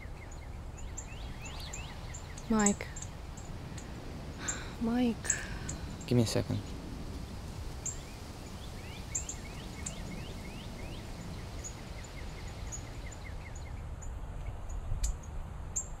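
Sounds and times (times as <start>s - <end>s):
small bird chirping: 0.0s - 6.8s, 7.8s - 16.0s.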